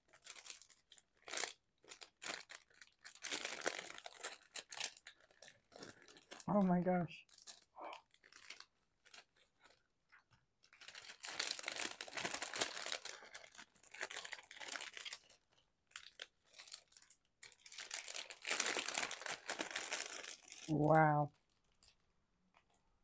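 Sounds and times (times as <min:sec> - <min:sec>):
plastic bag crinkling: 0:00.0 - 0:06.7, 0:07.3 - 0:22.8.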